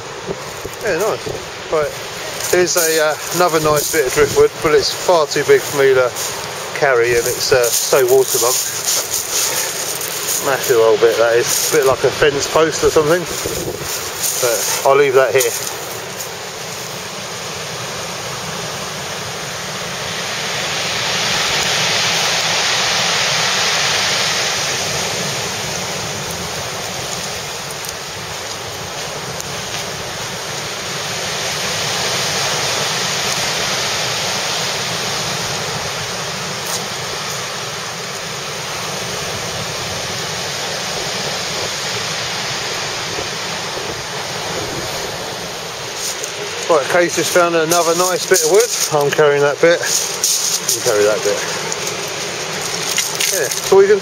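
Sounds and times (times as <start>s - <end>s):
strong wind: 0.0s - 54.0s
surf breaking on pebbles: 0.0s - 54.0s.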